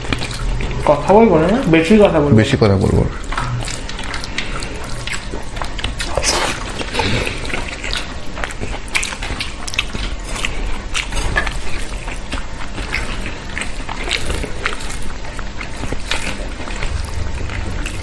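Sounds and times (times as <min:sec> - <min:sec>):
wet chewing squelches: 0:00.0 - 0:18.0
lip smacks: 0:03.1 - 0:18.0.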